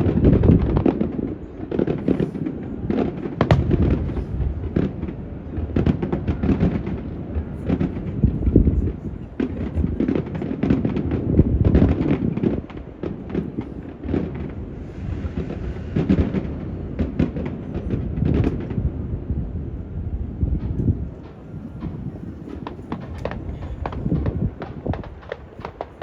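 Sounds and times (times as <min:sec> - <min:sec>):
fireworks bursting: 0:00.0 - 0:19.3, 0:20.5 - 0:26.0
wind buffeting microphone: 0:00.0 - 0:26.0.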